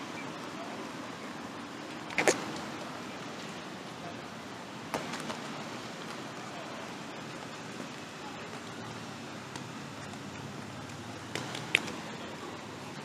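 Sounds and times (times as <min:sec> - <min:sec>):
city background hiss: 0:00.0 - 0:13.0.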